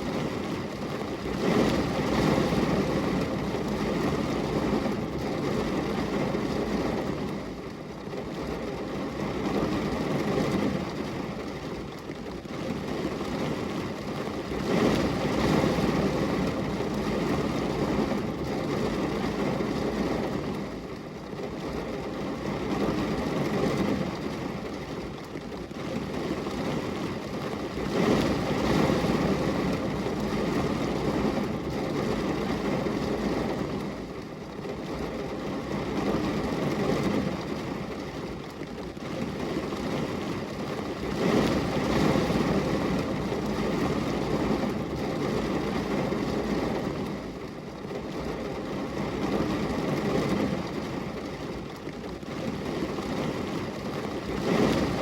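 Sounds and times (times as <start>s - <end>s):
steady rain rushing: 0.0s - 55.0s.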